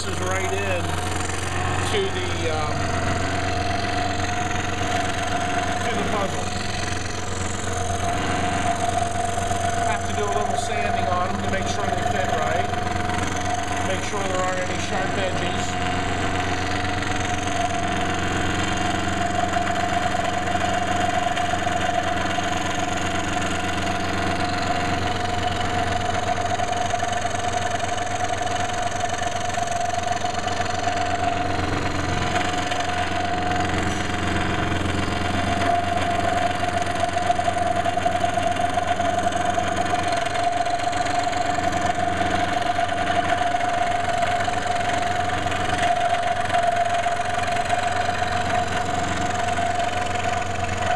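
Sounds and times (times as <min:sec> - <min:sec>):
electric saw cutting wood: 0:00.0 - 0:50.9.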